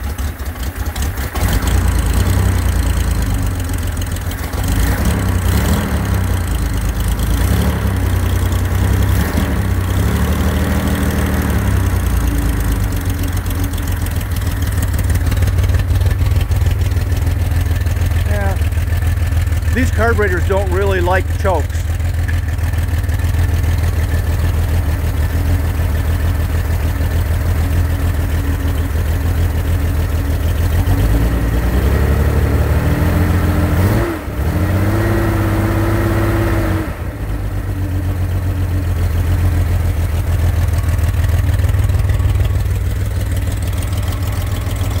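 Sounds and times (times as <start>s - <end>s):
air-cooled engine running: 0.0s - 45.0s.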